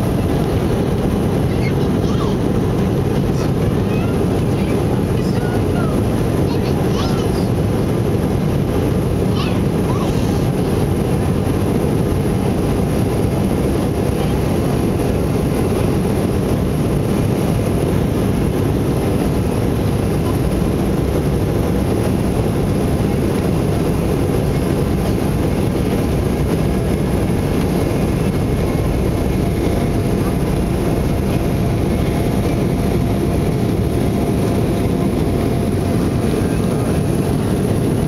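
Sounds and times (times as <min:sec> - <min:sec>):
jet engines at takeoff power: 0:00.0 - 0:38.0.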